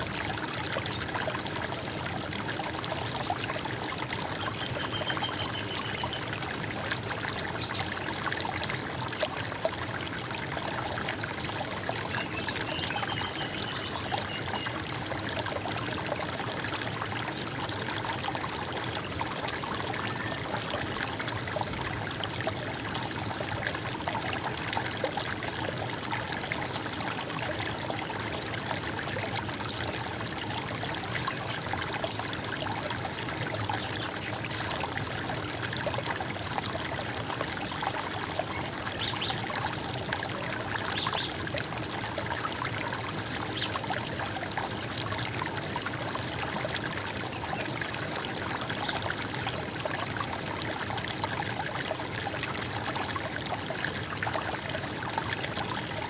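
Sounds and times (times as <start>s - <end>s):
running water gurgling: 0.0s - 56.0s.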